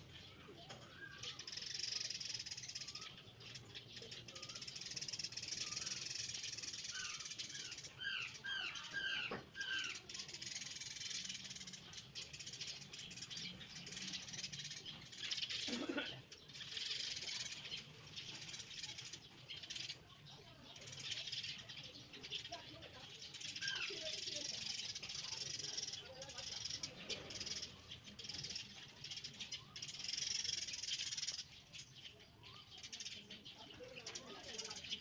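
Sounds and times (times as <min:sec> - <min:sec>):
birds calling: 0:00.0 - 0:35.0.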